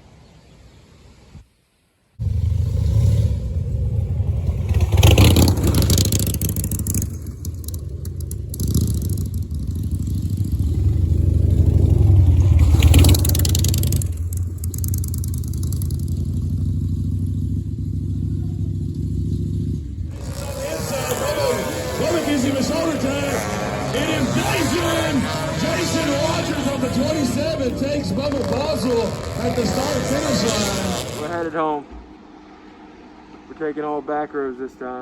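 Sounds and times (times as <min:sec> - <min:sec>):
racing motorcycles passing: 0:02.2 - 0:35.0.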